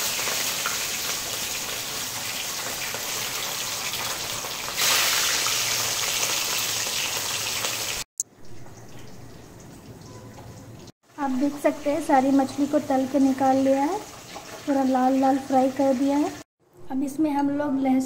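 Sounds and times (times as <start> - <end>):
fish frying in hot oil: 0.0 - 9.3, 11.1 - 16.4.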